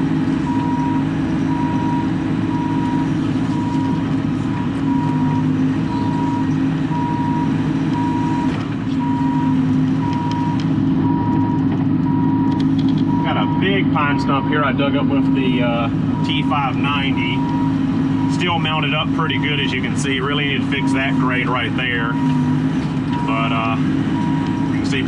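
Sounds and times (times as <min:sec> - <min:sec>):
diesel engine running: 0:00.0 - 0:25.0
travel alarm beeping: 0:00.4 - 0:04.1, 0:04.8 - 0:25.0.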